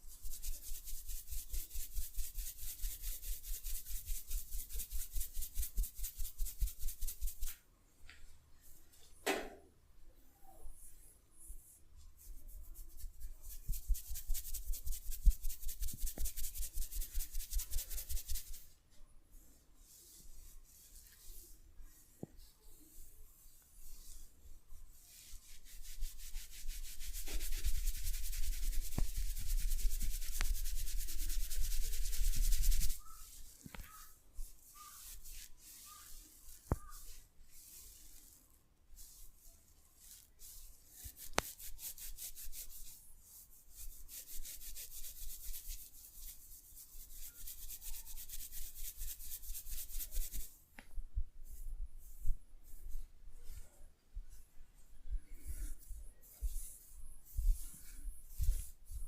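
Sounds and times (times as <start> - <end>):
hands rubbing hair and scalp: 0.0 - 9.0, 11.4 - 18.8, 19.8 - 53.7, 55.3 - 59.0.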